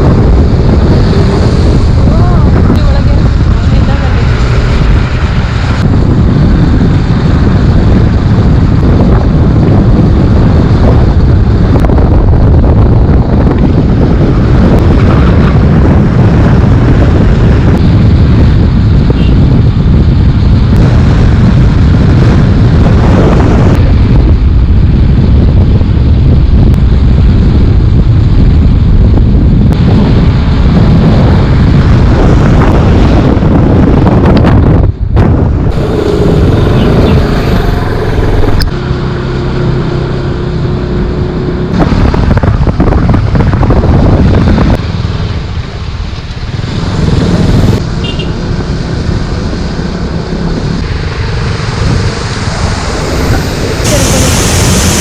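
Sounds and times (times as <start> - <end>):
motorcycle and road noise: 0.0 - 55.0
wind buffeting microphone: 0.0 - 55.0.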